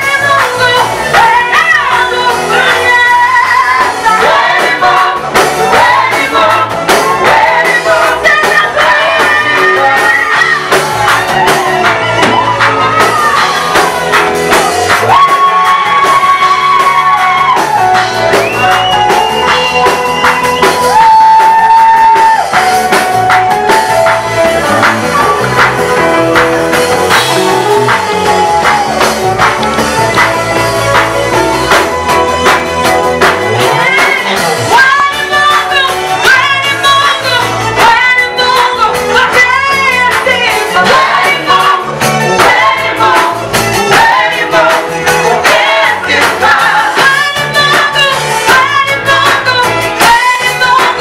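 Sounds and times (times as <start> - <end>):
band playing steady beat: 0.0 - 51.0
people singing gospel: 0.0 - 51.0.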